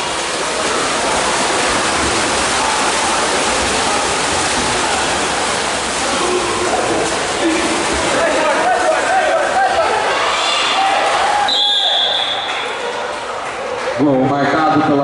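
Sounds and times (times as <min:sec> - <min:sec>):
swimmers splashing water: 0:00.0 - 0:15.0.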